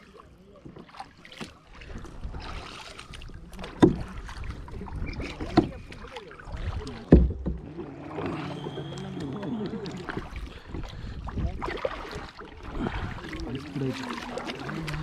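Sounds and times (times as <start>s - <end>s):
low watery rumble: 0.0s - 15.0s
paddle strokes: 0.0s - 15.0s.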